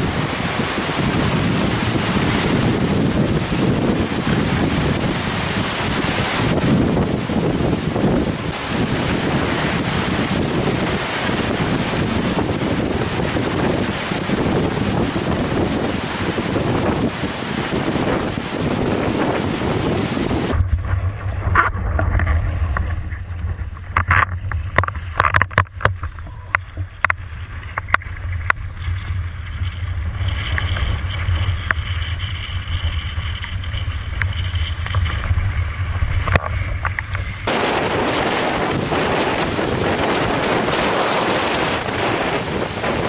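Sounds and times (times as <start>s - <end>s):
deep water rumble: 0.0s - 43.0s
knocks and splashes: 0.0s - 43.0s
wind rushing on microphone: 0.0s - 43.0s.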